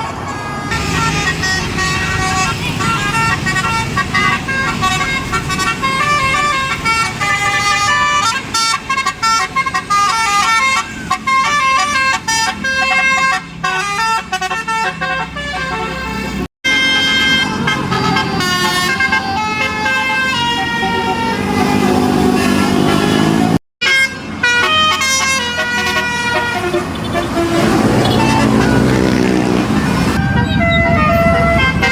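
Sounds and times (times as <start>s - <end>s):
bus engine running: 0.0s - 23.6s, 24.2s - 31.9s
multi-tone bus horn melody: 0.0s - 31.9s.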